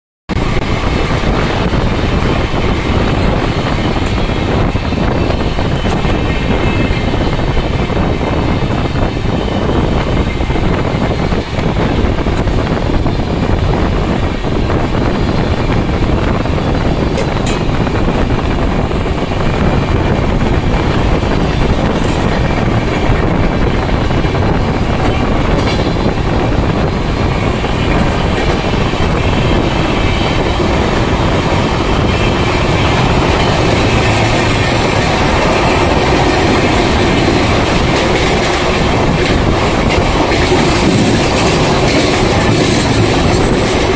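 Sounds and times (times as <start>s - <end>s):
train wheels rumbling on rails: 0.3s - 43.9s.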